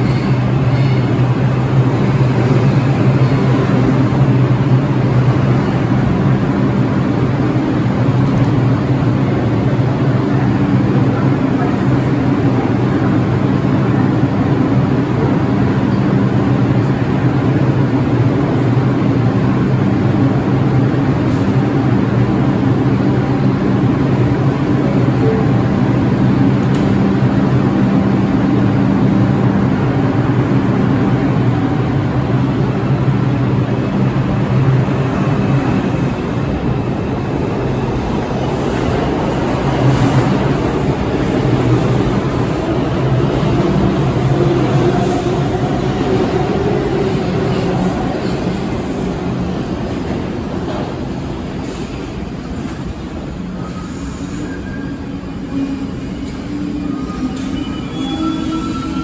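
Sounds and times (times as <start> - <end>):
subway train humming: 0.0 - 59.0.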